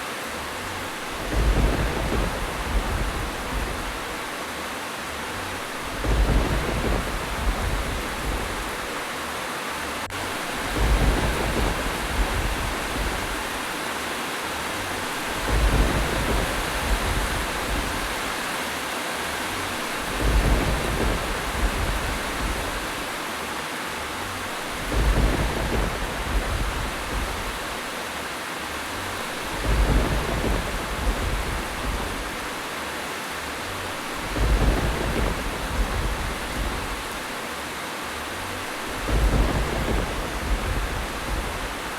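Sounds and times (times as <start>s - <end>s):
steady rain: 0.0s - 41.9s
low thunder rumbles: 0.7s - 4.5s, 5.2s - 9.2s, 10.0s - 18.6s, 19.4s - 23.3s, 24.1s - 28.1s, 28.8s - 32.7s, 33.6s - 37.4s, 38.3s - 41.9s.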